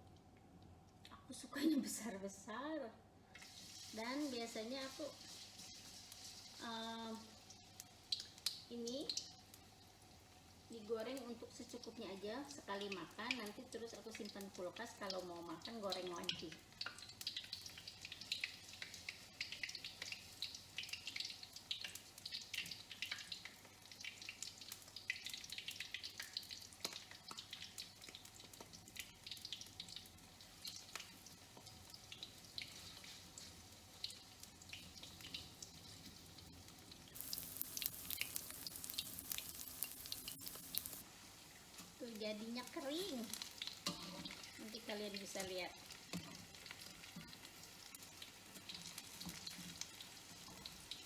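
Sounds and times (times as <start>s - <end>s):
deep-frying in hot oil: 3.2s - 51.0s.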